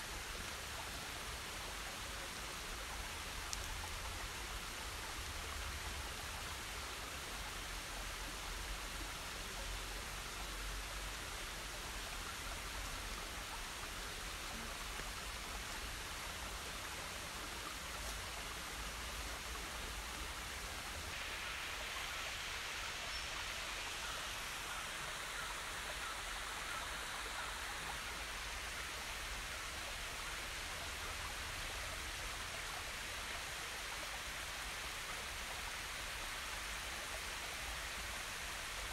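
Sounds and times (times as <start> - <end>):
rushing outdoor ambient noise: 0.0 - 38.9.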